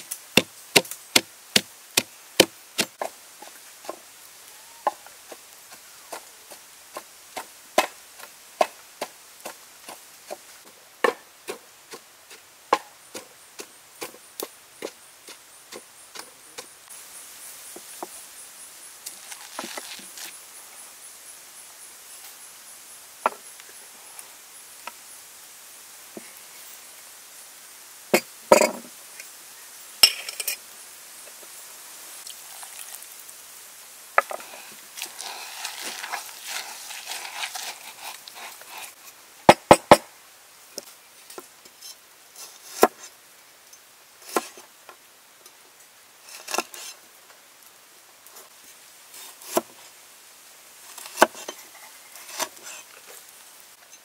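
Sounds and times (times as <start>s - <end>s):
soft hiss: 0.0s - 54.0s.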